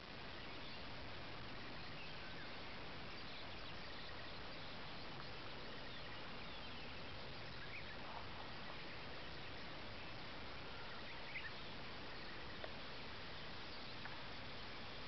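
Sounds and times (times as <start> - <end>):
faint bird chirps: 0.0 - 15.0
steady outdoor hiss: 0.0 - 15.0.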